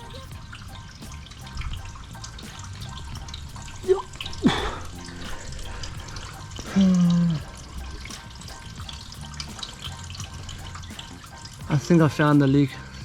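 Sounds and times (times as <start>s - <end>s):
low pitched tone: 0.0s - 13.0s
water trickling and dripping: 0.0s - 13.0s.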